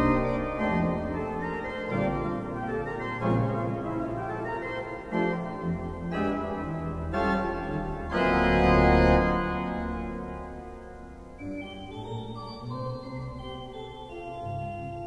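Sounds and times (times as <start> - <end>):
deep organ bass notes: 0.0 - 15.0
pipe organ sustained chords: 0.0 - 15.0.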